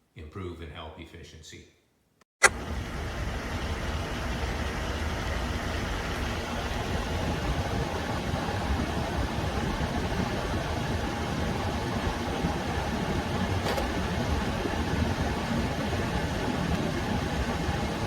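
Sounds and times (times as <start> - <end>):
air conditioner humming: 2.8 - 18.0.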